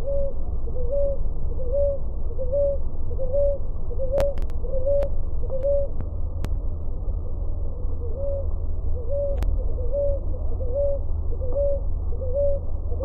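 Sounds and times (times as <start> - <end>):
dove cooing: 0.0 - 6.0, 7.5 - 13.0.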